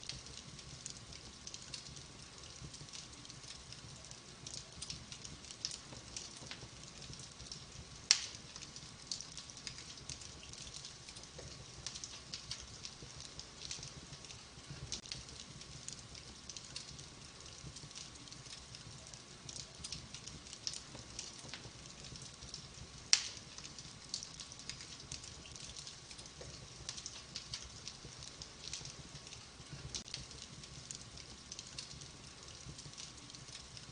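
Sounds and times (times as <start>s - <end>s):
loud pops from fire: 0.0s - 33.8s
wood fire crackling: 0.0s - 33.9s.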